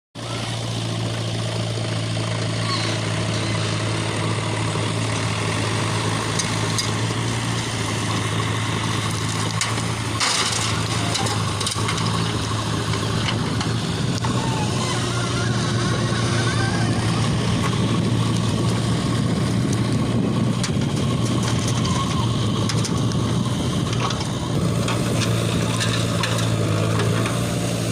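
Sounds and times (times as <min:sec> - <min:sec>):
diesel engine humming: 0:00.2 - 0:27.9.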